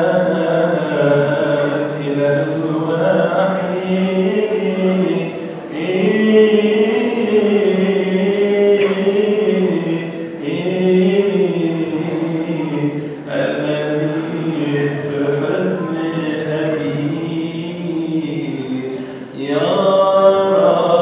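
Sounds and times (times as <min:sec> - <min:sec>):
man chanting: 0:00.0 - 0:21.0.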